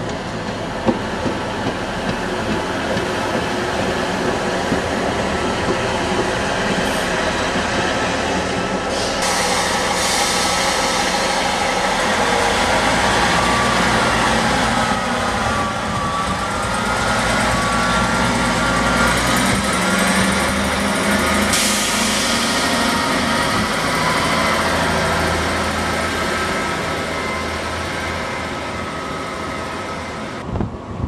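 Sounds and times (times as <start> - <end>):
train wheels on track: 0.0 - 31.0.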